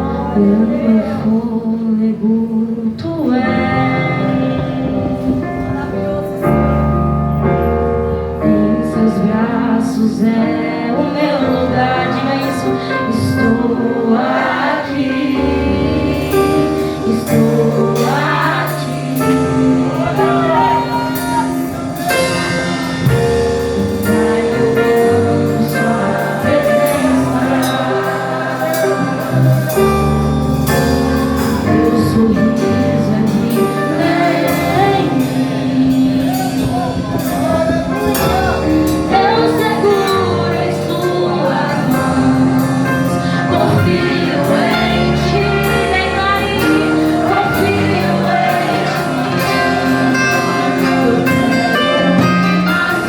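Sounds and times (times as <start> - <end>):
gospel-like song with singing: 0.0 - 53.0.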